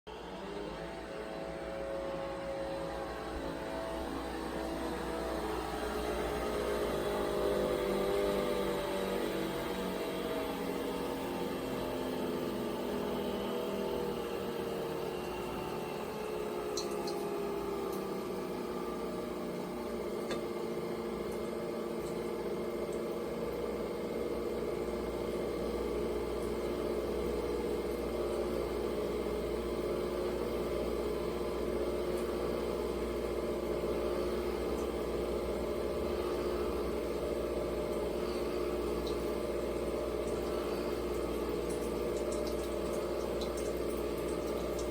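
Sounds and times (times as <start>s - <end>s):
coffee machine motor whir: 0.1s - 44.9s.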